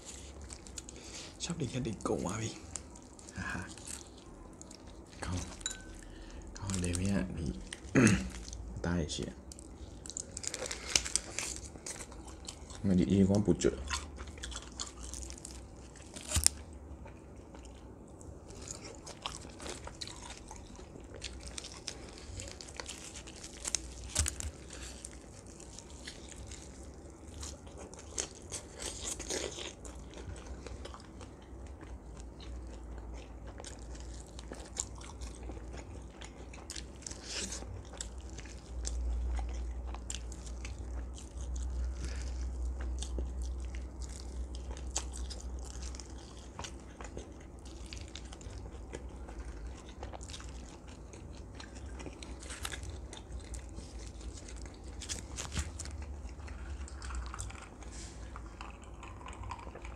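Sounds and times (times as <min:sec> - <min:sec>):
low steady hum: 0:00.0 - 0:59.9
chewing and biting meat: 0:09.4 - 0:59.9.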